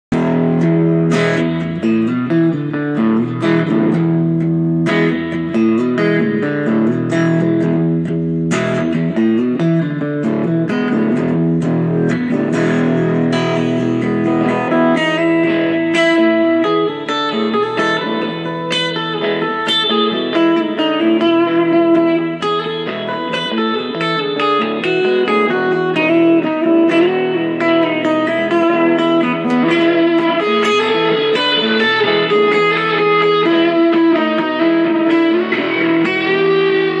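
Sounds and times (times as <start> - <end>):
electric guitar playing: 0.1 - 37.0.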